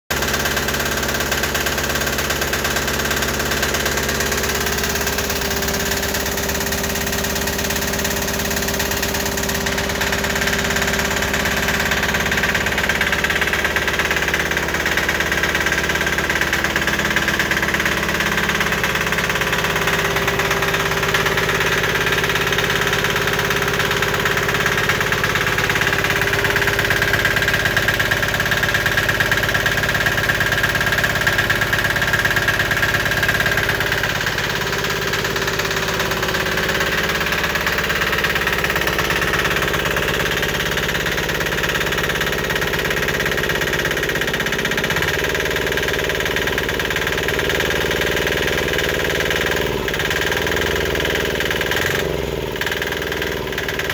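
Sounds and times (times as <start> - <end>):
diesel engine clattering: 0.1 - 53.9.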